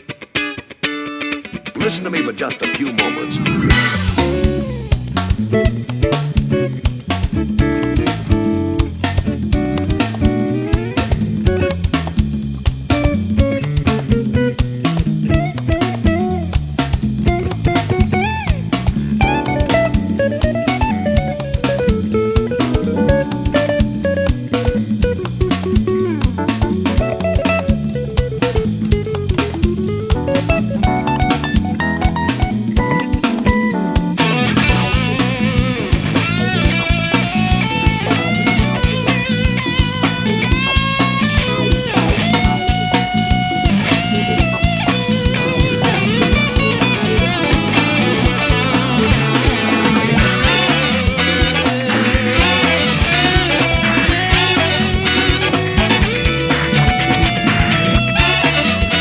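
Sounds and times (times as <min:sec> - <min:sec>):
bending lead guitar: 0:00.0 - 0:59.0
bass: 0:03.3 - 0:59.0
drum kit with cymbals: 0:03.7 - 0:59.0.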